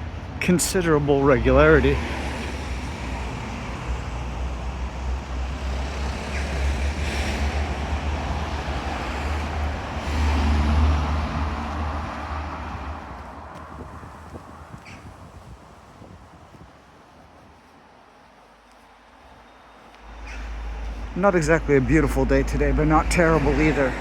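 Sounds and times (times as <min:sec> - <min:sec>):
vehicles passing: 0:00.0 - 0:24.0.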